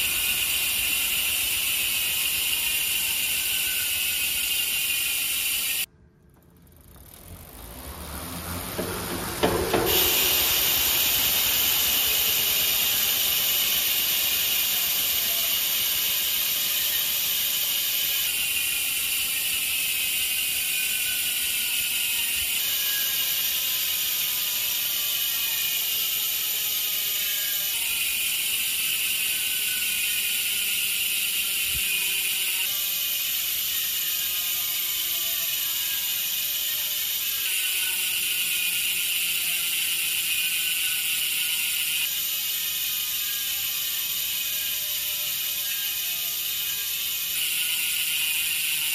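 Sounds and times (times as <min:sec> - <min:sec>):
bicycle hub ticking buzz: 0:00.0 - 0:48.9.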